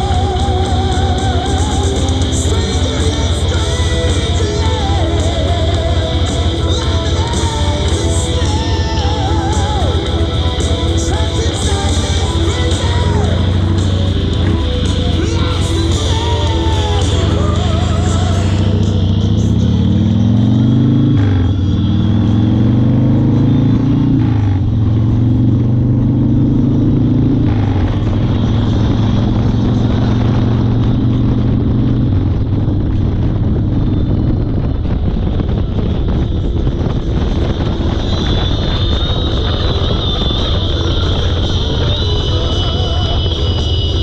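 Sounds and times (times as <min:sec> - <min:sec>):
motorcycle engine accelerating: 0:00.0 - 0:44.0
wind rush: 0:00.0 - 0:44.0.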